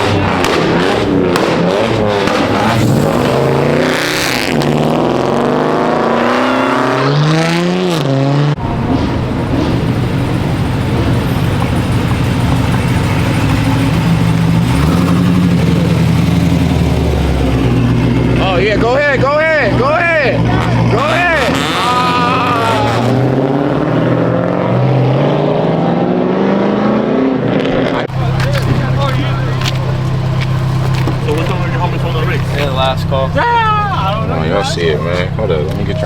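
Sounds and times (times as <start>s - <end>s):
car engine revving loudly: 0.0s - 36.0s.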